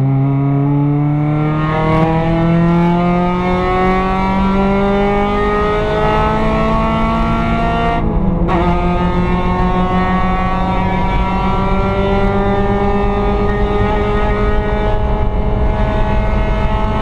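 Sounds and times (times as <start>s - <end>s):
race car engine at full throttle: 0.0s - 17.0s.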